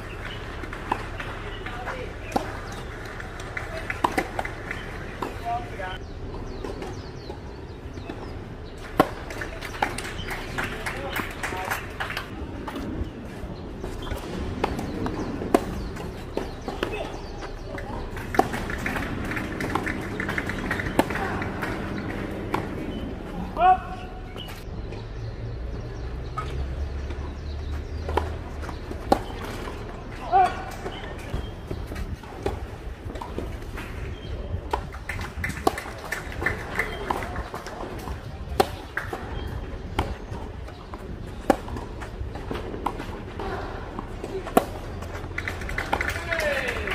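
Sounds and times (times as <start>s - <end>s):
tennis ball hits: 0.0s - 13.0s, 13.8s - 23.8s, 27.9s - 46.9s.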